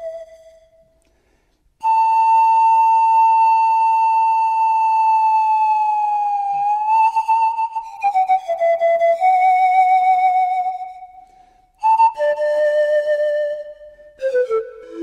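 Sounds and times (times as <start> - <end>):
breathy flute melody: 0.0 - 15.0.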